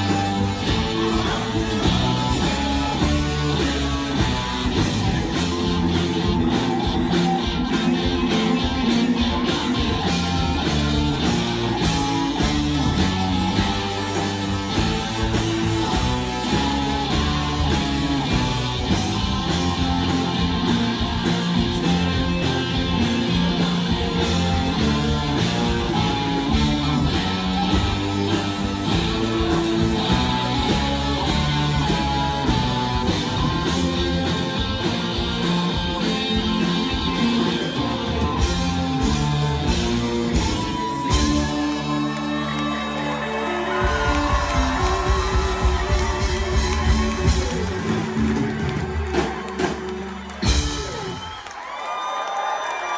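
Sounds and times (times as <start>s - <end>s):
live rock band playing: 0.0s - 52.8s.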